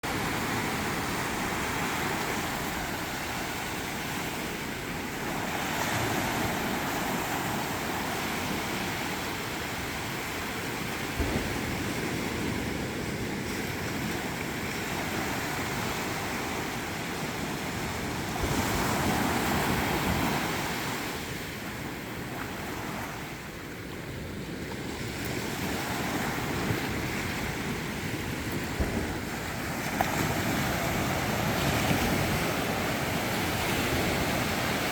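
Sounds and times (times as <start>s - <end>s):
sea waves breaking on beach: 0.0s - 34.9s.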